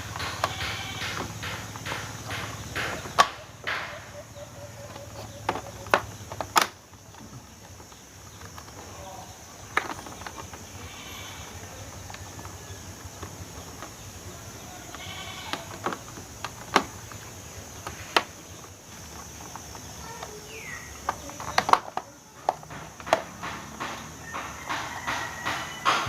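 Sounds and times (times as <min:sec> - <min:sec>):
plastic parts clicking and knocking: 0:00.0 - 0:26.0.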